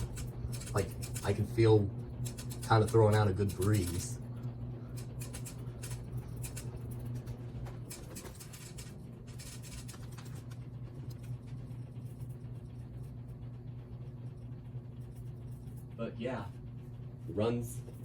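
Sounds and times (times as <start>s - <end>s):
ceiling fan motor hum: 0.0s - 18.0s
fan blades ticking and rattling: 0.0s - 18.0s.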